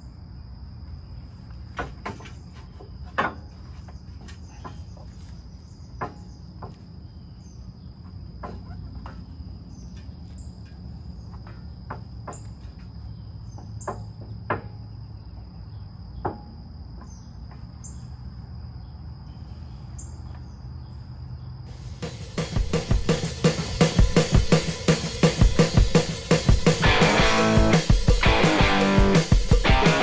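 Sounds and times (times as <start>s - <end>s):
crickets trilling: 0.0s - 29.8s.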